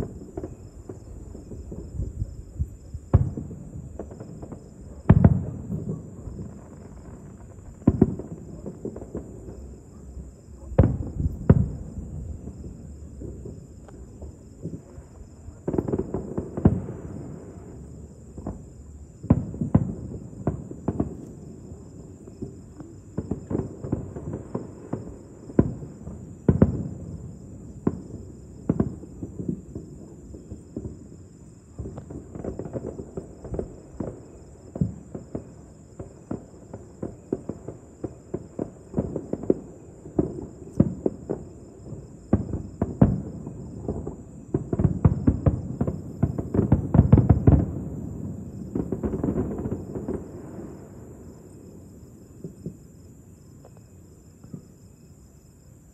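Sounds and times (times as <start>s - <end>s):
fireworks booms and pops: 0.0s - 53.8s, 54.4s - 54.8s
high insect trill: 5.8s - 55.9s.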